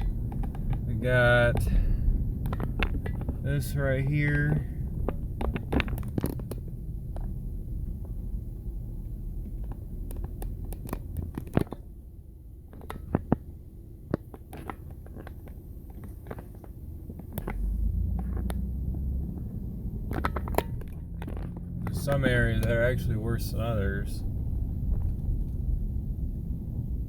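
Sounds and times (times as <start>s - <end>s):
sharp clicks and crackles: 0.0s - 11.9s, 12.7s - 25.8s
road rumble inside vehicle: 0.0s - 27.0s.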